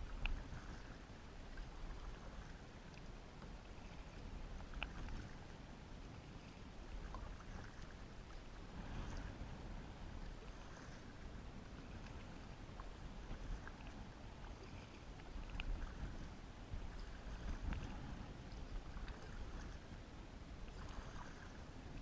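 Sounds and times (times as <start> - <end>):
paddle splashing and dripping: 0.0 - 5.6, 6.2 - 9.6, 10.2 - 20.0, 20.6 - 22.0.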